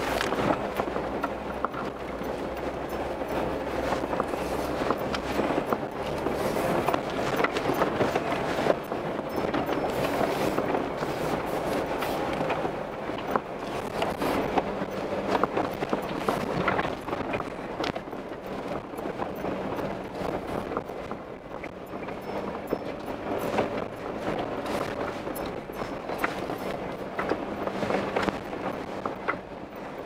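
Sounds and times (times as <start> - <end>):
low engine hum: 0.0 - 30.0
tyres rumbling on rock and gravel: 0.0 - 30.0.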